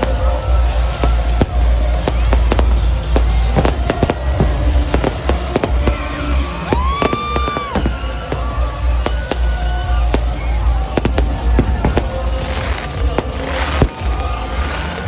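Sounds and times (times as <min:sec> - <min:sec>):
deep rumble of booms: 0:00.0 - 0:14.5
fireworks bangs and crackles: 0:00.0 - 0:15.0.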